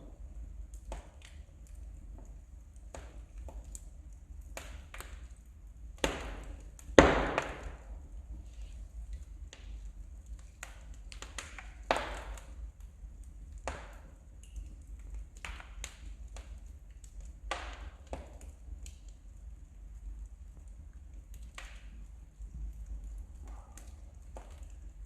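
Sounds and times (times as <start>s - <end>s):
firewood crackling and popping: 0.0s - 25.0s.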